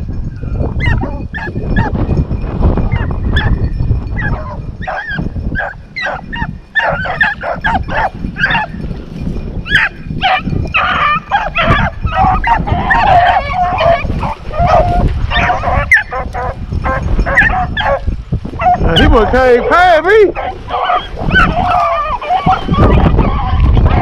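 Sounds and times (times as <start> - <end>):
hounds barking: 0.8 - 2.0, 2.8 - 8.8, 9.7 - 24.0.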